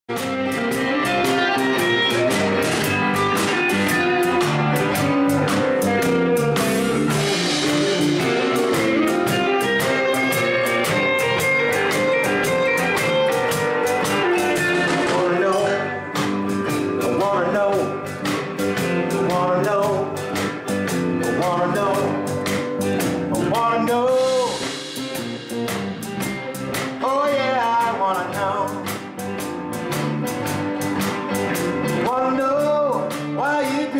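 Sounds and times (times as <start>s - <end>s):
guitar: 0.0s - 33.9s
person singing: 0.1s - 20.6s, 21.2s - 22.4s, 23.3s - 25.0s, 26.9s - 29.0s, 32.0s - 33.9s
blues-rock song: 0.1s - 33.9s
drum-kit beat: 0.1s - 33.9s.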